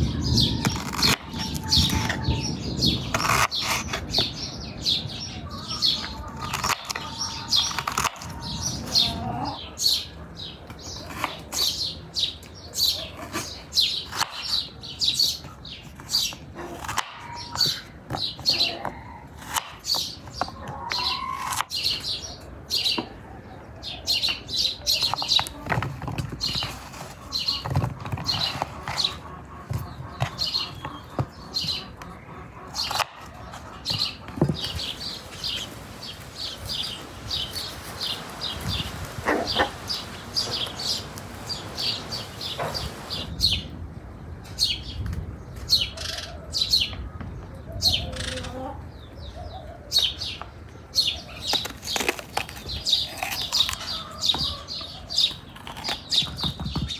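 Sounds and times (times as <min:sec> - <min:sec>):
small birds chirping: 0:00.0 - 0:43.8, 0:44.4 - 0:56.9.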